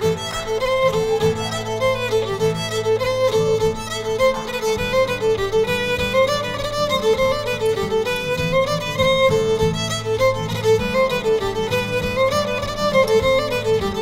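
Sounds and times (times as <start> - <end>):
fiddle tune: 0.0 - 14.0.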